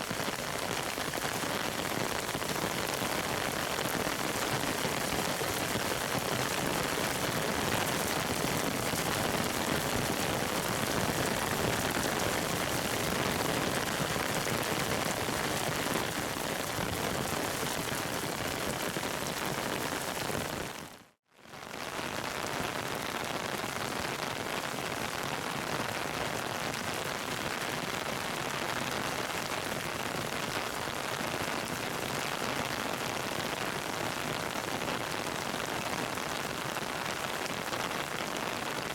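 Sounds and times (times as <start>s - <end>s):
heavy rain falling: 0.0s - 20.9s, 21.7s - 38.9s.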